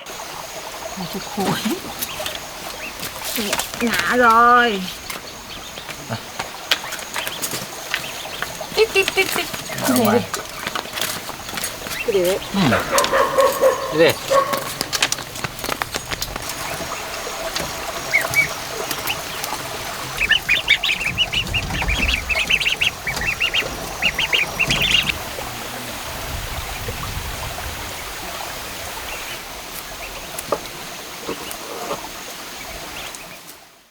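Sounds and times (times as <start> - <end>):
ducks calling: 0.0 - 33.6.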